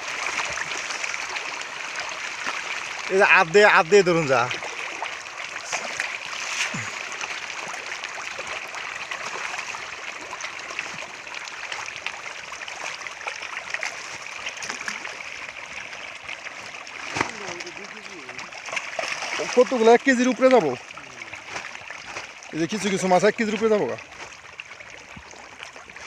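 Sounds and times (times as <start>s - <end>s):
water running and splashing: 0.0s - 26.0s.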